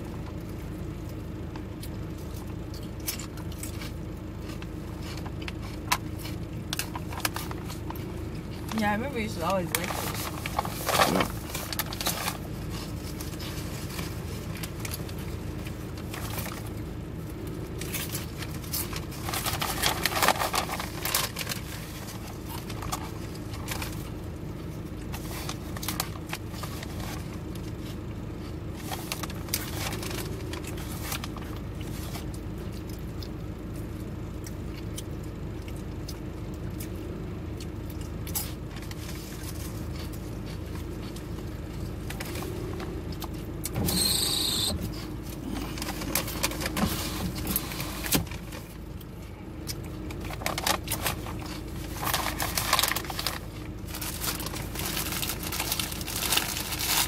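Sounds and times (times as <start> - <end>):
bread roll crackling and chewing: 0.0 - 57.0
car cabin hum: 0.0 - 57.0.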